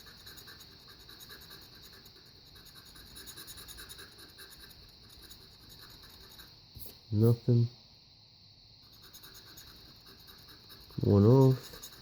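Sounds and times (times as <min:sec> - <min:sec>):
knife scraping scratch-off ticket: 0:00.0 - 0:06.5, 0:08.9 - 0:12.0.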